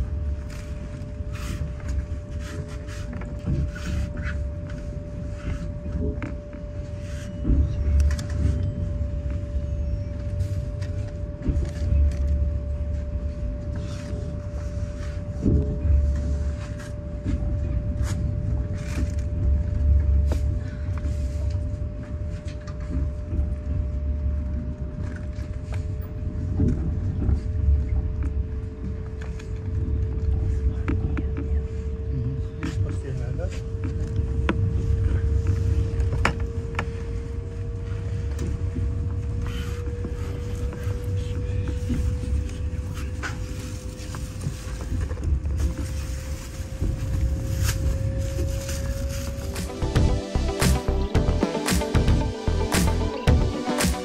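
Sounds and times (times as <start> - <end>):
constant hum: 0.0 - 54.0
train carriage rumbling: 0.0 - 54.0.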